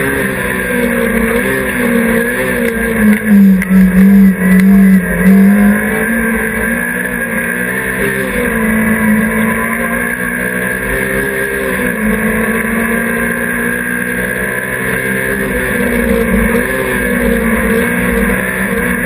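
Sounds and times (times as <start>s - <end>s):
race car engine running hard: 0.0s - 19.0s.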